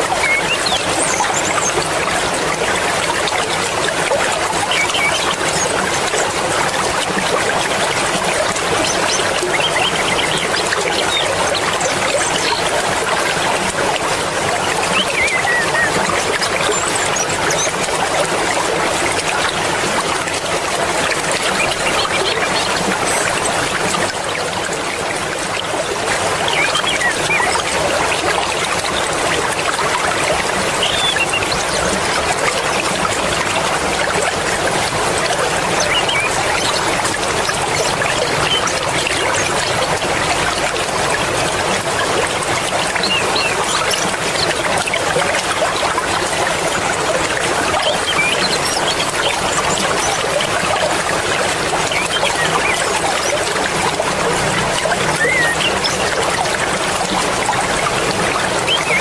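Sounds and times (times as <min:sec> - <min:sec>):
river water rushing and babbling: 0:00.0 - 0:59.0.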